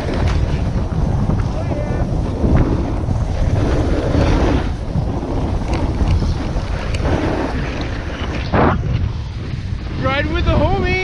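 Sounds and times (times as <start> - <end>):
snowboard scraping on snow: 0.0 - 10.3
wind buffeting microphone: 0.0 - 11.0.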